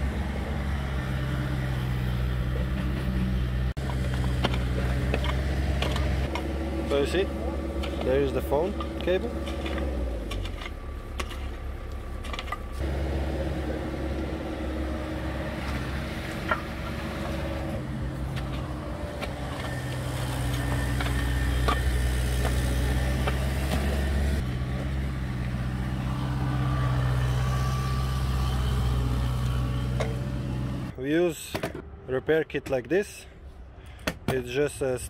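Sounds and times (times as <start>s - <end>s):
excavator engine running: 0.0s - 31.0s.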